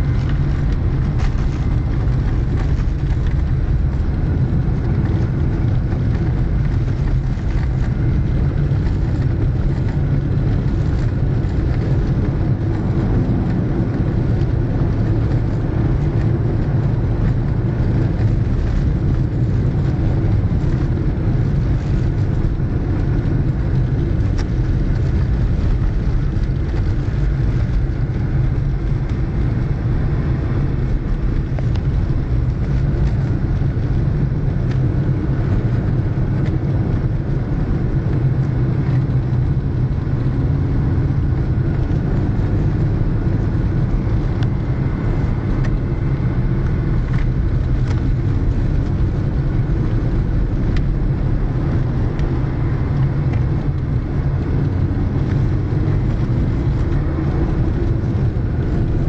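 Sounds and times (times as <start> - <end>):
car engine hum: 0.0 - 59.0
tyres rumbling on rough road: 0.0 - 59.0.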